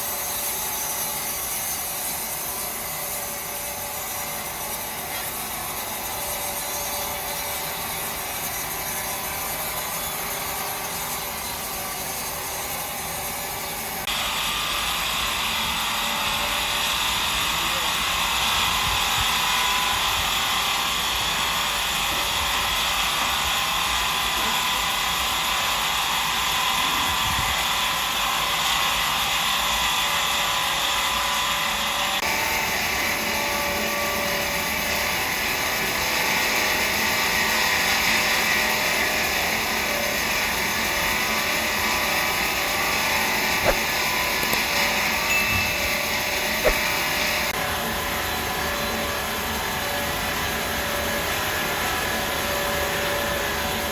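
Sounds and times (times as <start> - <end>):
sawmill machinery hum and hiss: 0.0 - 53.9.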